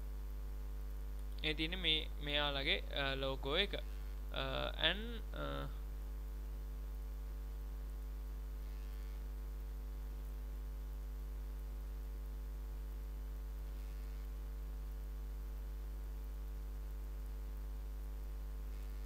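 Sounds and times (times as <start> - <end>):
faint background hiss: 0.0 - 19.0
low electrical mains hum: 0.0 - 19.0.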